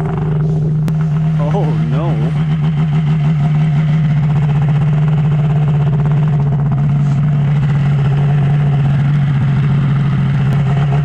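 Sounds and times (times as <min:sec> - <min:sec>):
snowmobile engine idling: 0:00.0 - 0:11.0.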